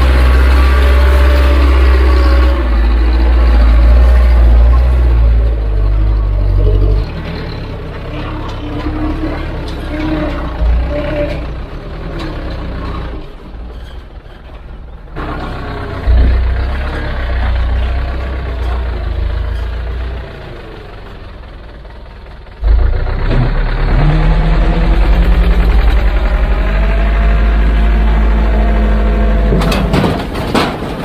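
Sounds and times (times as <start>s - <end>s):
diesel construction machinery engines: 0.0s - 31.0s.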